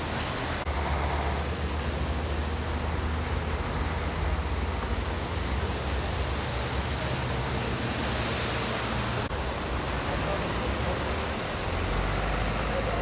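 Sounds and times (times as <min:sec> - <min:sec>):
motorway traffic rumble: 0:00.0 - 0:13.0
tyre and road noise: 0:00.0 - 0:13.0.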